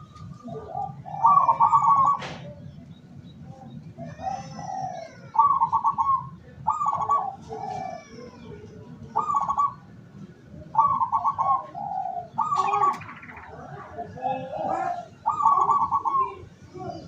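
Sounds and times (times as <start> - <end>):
dove cooing: 0.0 - 2.8, 4.0 - 17.0.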